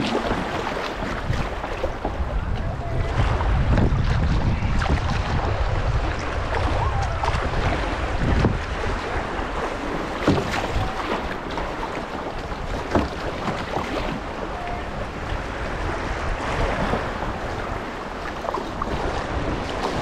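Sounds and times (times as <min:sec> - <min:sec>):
water rushing and splashing: 0:00.0 - 0:20.0
wind buffeting microphone: 0:00.0 - 0:20.0.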